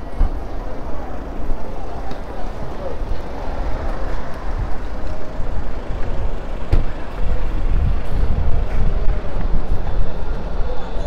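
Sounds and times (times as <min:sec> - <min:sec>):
vehicles rumbling: 0:00.0 - 0:11.0.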